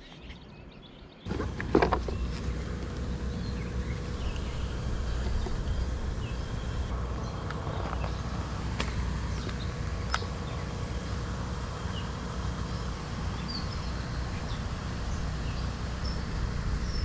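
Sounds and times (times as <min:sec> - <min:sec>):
low rumble: 0:01.3 - 0:17.0.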